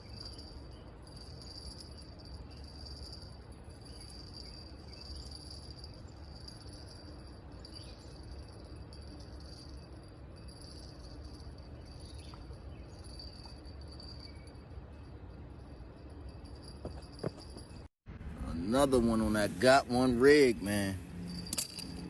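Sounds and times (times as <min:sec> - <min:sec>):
crickets chirping: 0:00.0 - 0:22.0
low background rumble: 0:02.2 - 0:22.0.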